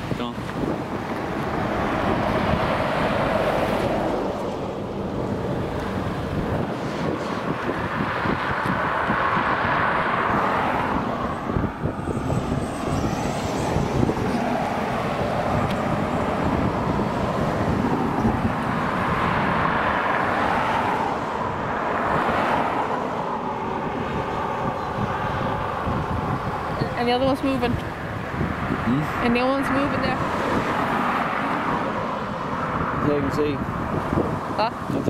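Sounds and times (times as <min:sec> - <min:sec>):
engine rumble: 0:00.0 - 0:35.0.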